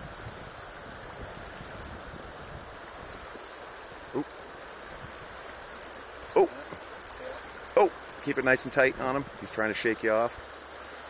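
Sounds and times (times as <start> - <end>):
river flowing over stones: 0.0 - 11.0.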